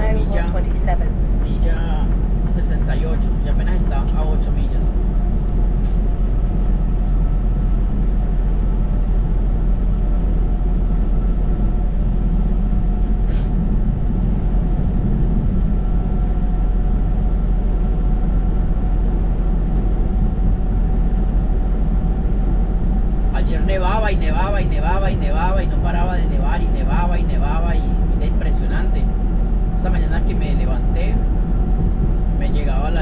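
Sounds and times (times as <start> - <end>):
diesel truck engine drone: 0.0 - 33.0
faint steady whine: 0.0 - 33.0
road noise inside cab: 0.0 - 33.0.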